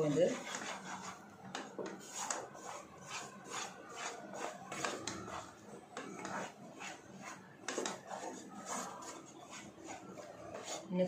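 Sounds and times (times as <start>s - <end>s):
wooden spatula scraping pan: 0.0s - 11.0s.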